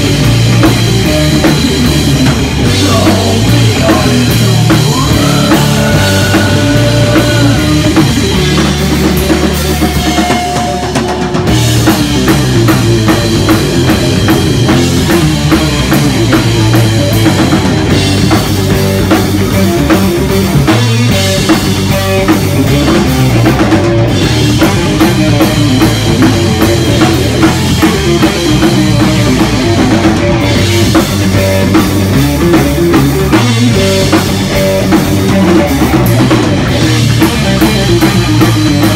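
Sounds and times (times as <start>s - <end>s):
drum kit beats: 0.0s - 38.9s
electric guitar: 0.0s - 38.9s.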